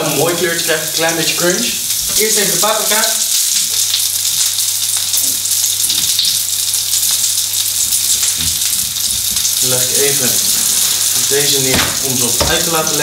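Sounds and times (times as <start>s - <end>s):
peppers sizzling in hot oil: 0.0s - 13.0s.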